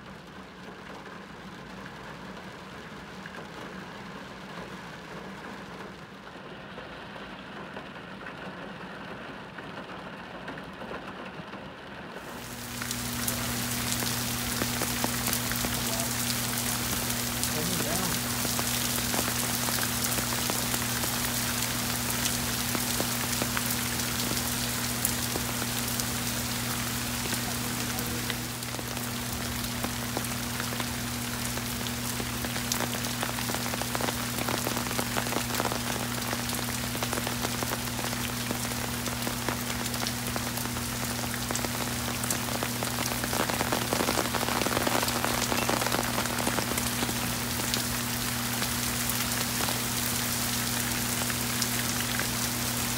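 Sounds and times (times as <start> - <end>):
heavy rain on pavement: 0.0 - 52.9.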